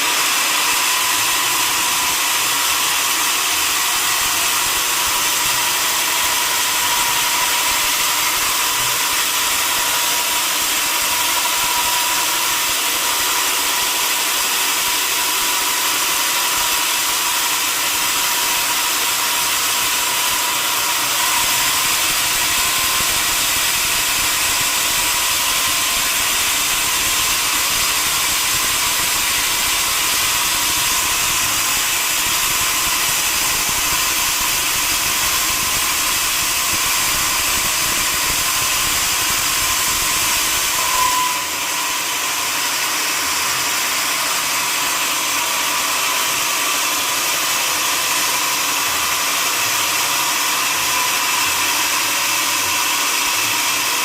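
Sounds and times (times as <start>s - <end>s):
saw machinery hissing and whining: 0.0s - 54.0s.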